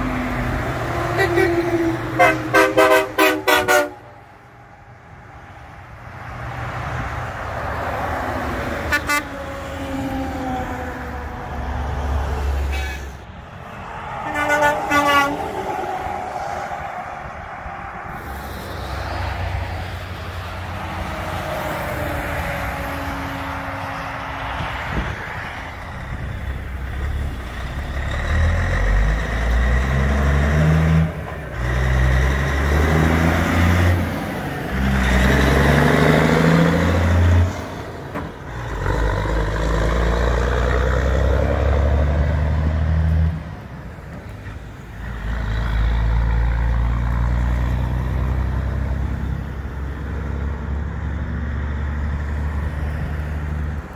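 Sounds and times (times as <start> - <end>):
diesel trucks driving past: 0.0 - 53.9.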